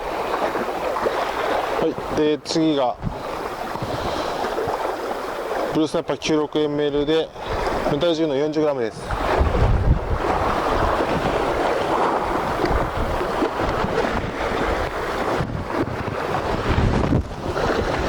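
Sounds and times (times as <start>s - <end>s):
wind buffeting microphone: 0.0s - 8.2s, 8.9s - 18.0s
sea waves on shore: 0.0s - 18.0s.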